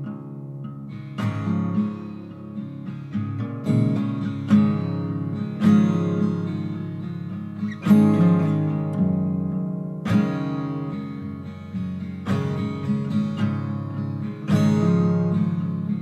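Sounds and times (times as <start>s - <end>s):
plucked guitar chords: 0.0s - 16.0s.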